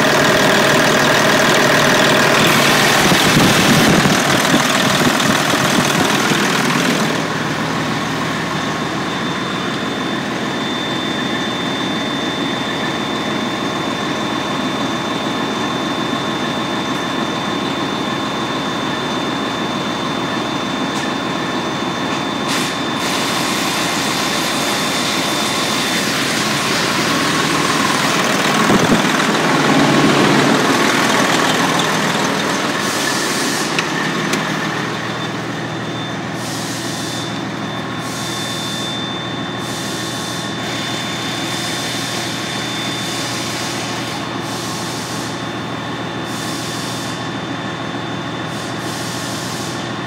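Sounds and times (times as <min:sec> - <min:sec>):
thin high whine: 0:00.0 - 0:45.4
diesel engine idling: 0:00.0 - 0:50.0.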